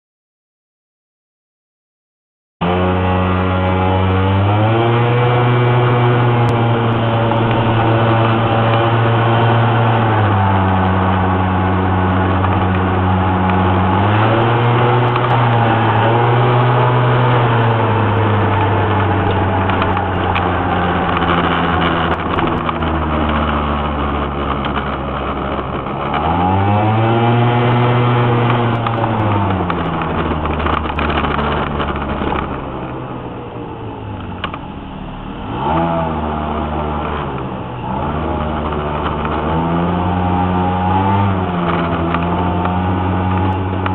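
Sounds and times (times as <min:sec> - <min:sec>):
vehicle engine pulling under load: 0:02.6 - 0:43.9.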